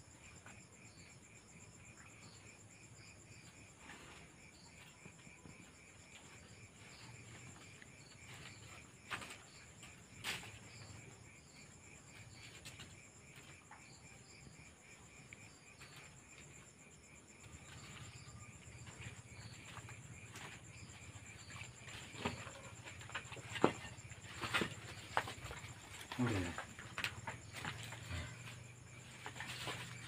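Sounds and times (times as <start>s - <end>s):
night insects chirping: 0.0s - 30.0s.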